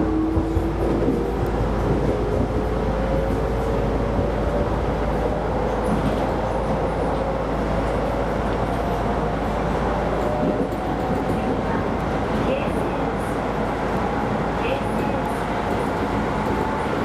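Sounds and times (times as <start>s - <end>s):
train drive whine: 0.0s - 17.0s
train wheels rumbling on rail: 0.0s - 17.0s.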